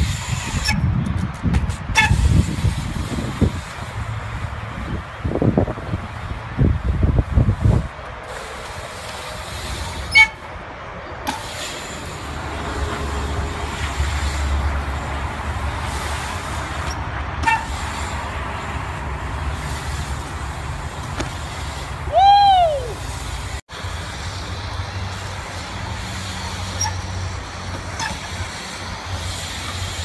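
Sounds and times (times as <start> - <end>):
bike tyres rolling on concrete: 0.0 - 30.0.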